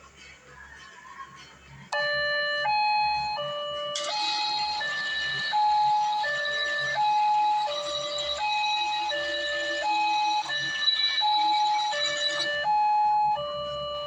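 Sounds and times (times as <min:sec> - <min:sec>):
electronic hi-lo siren: 0:01.9 - 0:14.0.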